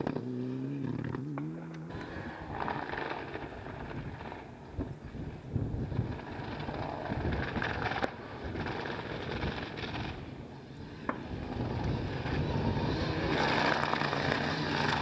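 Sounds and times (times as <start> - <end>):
rally car engine approaching: 0.0 - 15.0.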